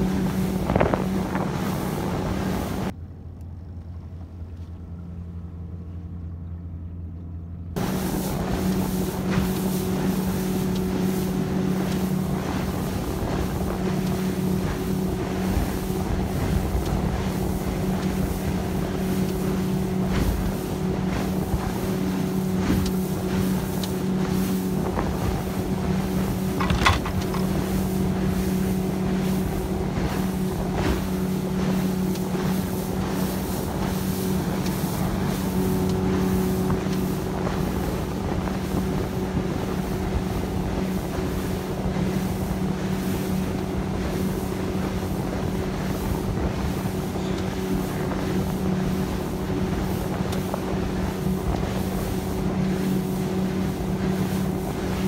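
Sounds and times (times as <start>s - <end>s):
rush of wind and water: 0.0s - 3.0s, 7.7s - 55.0s
boat engine humming: 0.0s - 55.0s.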